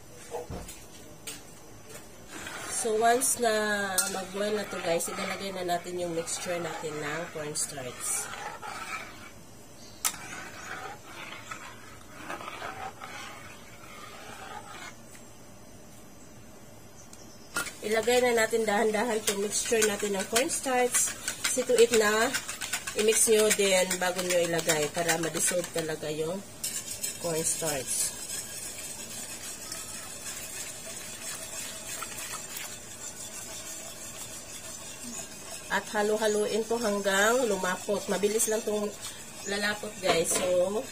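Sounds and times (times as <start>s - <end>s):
liquid swishing in a wok: 1.8s - 15.1s, 17.5s - 40.9s
whisk scraping: 2.3s - 15.0s, 17.5s - 40.9s.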